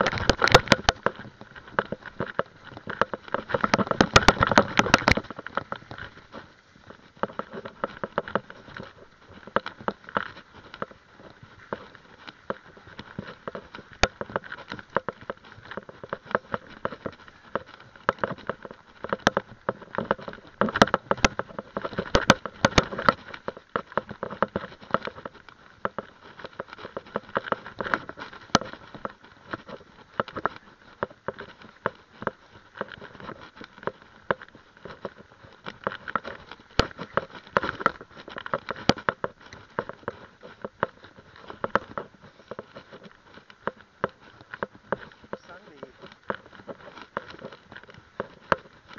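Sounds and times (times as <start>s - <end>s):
bike rattling and knocking: 0.0s - 48.9s
tyres crunching on gravel: 0.0s - 48.9s.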